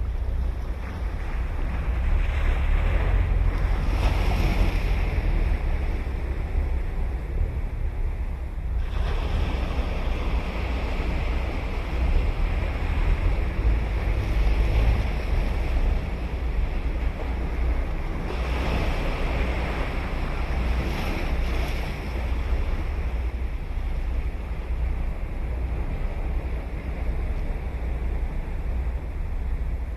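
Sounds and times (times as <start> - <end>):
waves breaking on beach: 0.0 - 29.9
wind on microphone: 0.0 - 29.9.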